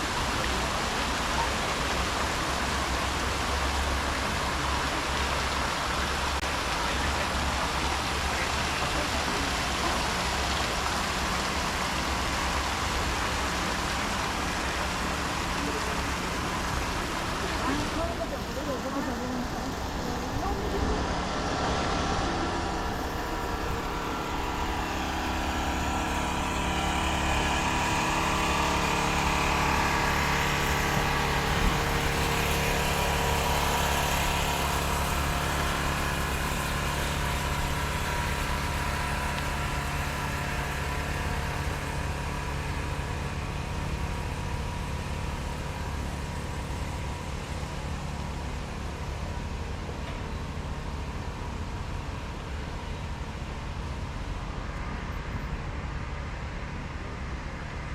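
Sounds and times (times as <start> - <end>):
vehicle engines: 0.0 - 57.9.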